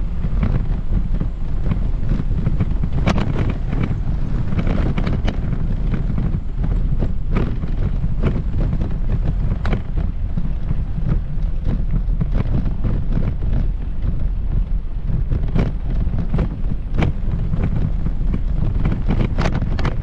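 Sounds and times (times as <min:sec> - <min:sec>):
footsteps on paved path: 0:00.0 - 0:20.0
wind buffeting microphone: 0:00.0 - 0:20.0.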